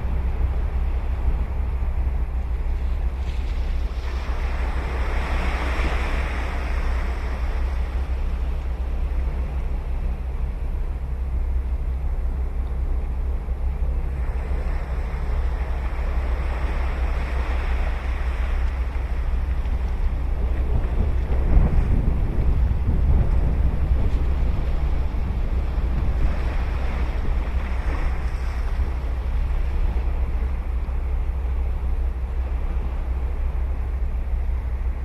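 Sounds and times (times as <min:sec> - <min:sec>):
ocean waves breaking: 0:00.0 - 0:35.0
wind on microphone: 0:00.0 - 0:35.0.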